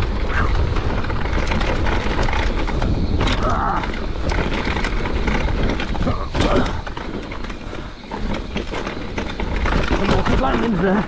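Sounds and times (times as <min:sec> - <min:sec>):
bike rattles and clicks: 0:00.0 - 0:11.0
bike tyres rolling over dirt: 0:00.0 - 0:11.0
wind rumbling on microphone: 0:00.0 - 0:11.0.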